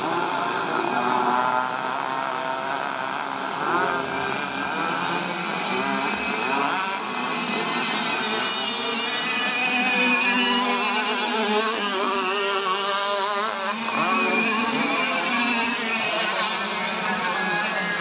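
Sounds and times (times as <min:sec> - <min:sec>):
racing model boat engines whining: 0:00.0 - 0:18.0.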